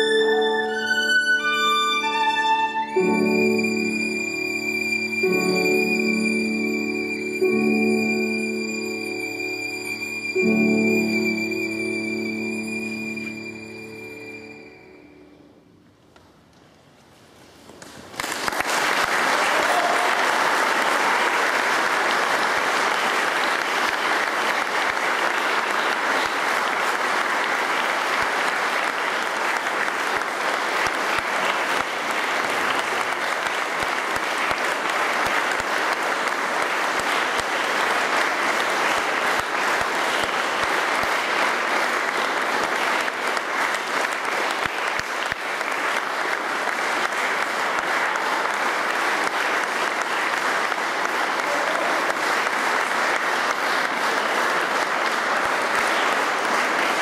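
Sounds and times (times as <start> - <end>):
audience applauding: 0.0 - 15.1, 17.7 - 57.0.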